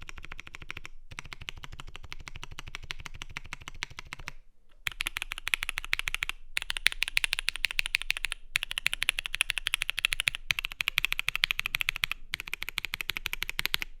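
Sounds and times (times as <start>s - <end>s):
clicky mechanical keyboard typing: 0.0s - 13.9s.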